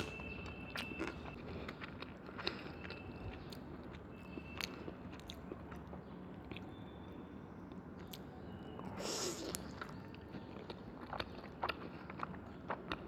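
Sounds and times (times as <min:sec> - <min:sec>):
person chewing food: 0:00.0 - 0:06.9, 0:07.7 - 0:13.0.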